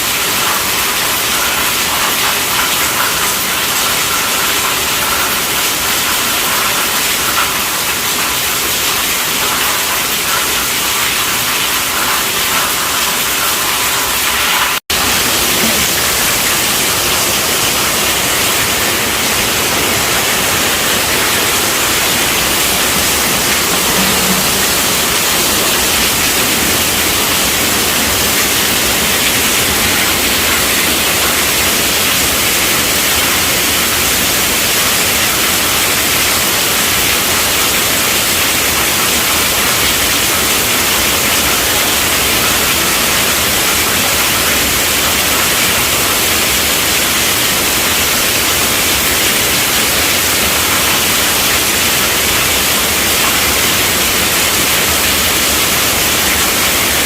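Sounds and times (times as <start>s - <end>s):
heavy rainfall hiss: 0.0s - 57.0s.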